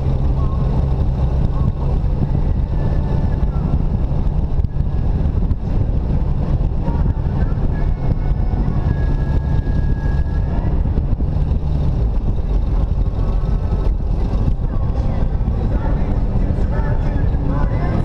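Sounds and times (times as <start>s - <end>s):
car engine rumble: 0.0s - 18.0s
wind noise: 0.0s - 18.0s.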